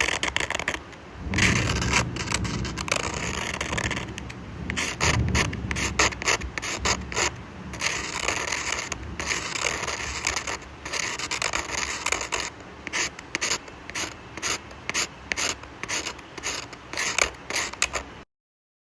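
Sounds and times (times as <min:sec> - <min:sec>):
pencil scratching on paper: 0:00.0 - 0:18.2.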